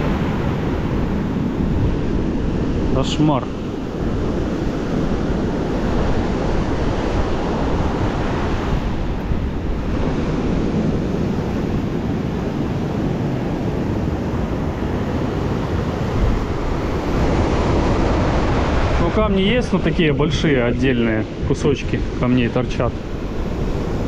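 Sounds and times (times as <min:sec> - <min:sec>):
surf breaking on beach: 0:00.0 - 0:24.0
wind on microphone: 0:00.0 - 0:24.0.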